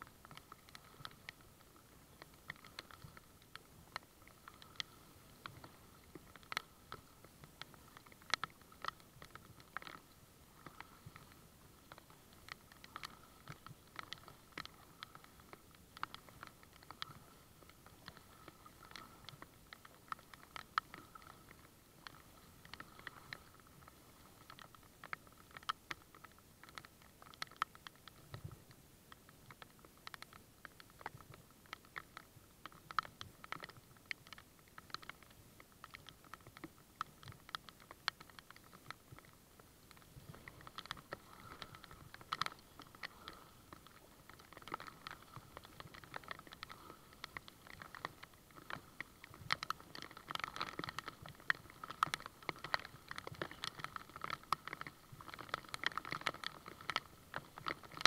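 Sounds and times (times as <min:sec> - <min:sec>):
raindrops pattering on kayak: 0:00.0 - 0:58.0.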